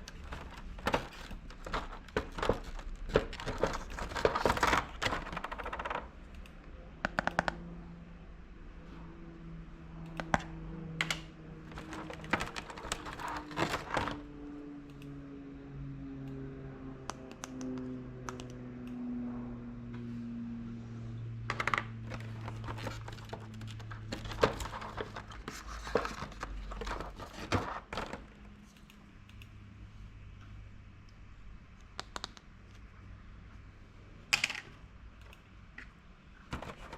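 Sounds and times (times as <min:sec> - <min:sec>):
low steady hum: 0:00.0 - 0:36.9.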